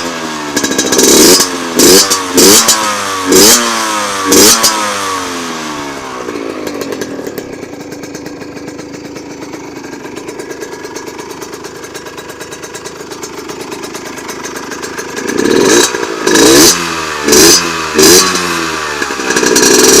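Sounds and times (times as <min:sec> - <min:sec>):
engine revving: 0:00.0 - 0:08.8, 0:12.6 - 0:20.0
two-stroke engine idling: 0:00.0 - 0:20.0.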